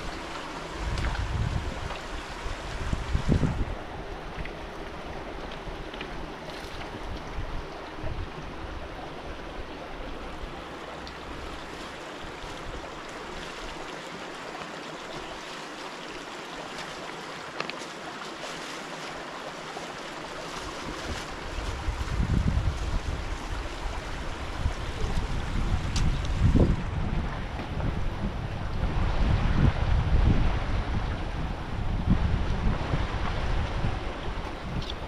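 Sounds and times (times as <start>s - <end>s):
wind on microphone: 0.0s - 13.8s, 20.5s - 35.0s
river water flowing: 0.0s - 35.0s.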